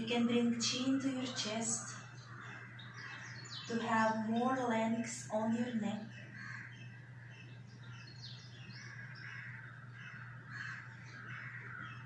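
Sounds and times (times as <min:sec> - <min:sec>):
birds chirping and calling: 0:00.0 - 0:12.0
steady low hum: 0:00.0 - 0:12.0.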